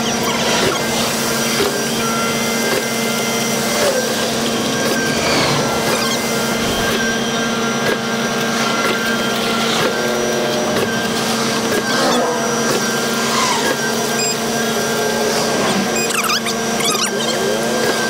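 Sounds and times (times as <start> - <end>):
concrete mixer engine and drum: 0.0 - 18.0.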